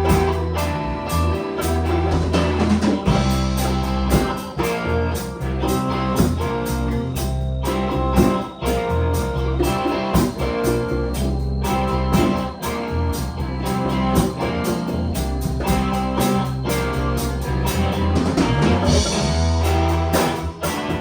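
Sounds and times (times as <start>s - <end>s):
drum kit steady beat: 0.0s - 21.0s
guitar: 0.0s - 21.0s
held bass notes: 0.0s - 21.0s.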